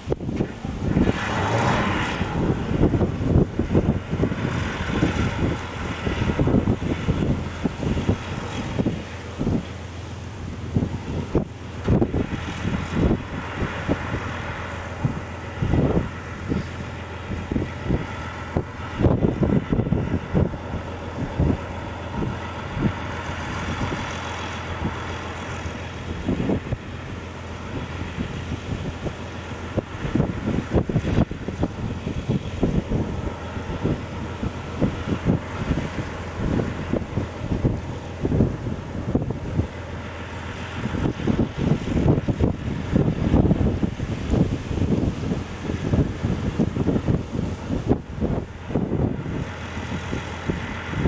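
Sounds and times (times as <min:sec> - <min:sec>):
diesel engine running: 0:00.0 - 0:51.0
wind buffeting microphone: 0:00.0 - 0:51.0.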